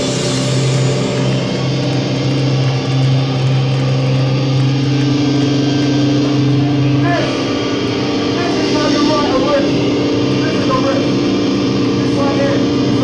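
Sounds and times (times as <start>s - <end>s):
distorted electric guitars chord: 0.0s - 13.0s.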